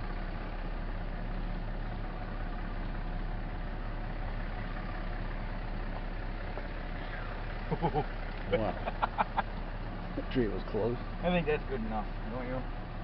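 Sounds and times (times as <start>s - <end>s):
truck engine running at low revs: 0.0s - 13.0s.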